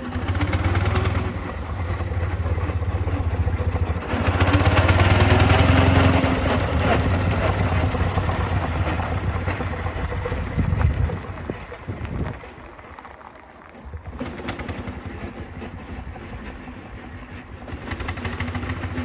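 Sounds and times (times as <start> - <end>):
steam engine exhaust beat: 0.0 - 13.1, 14.0 - 19.0.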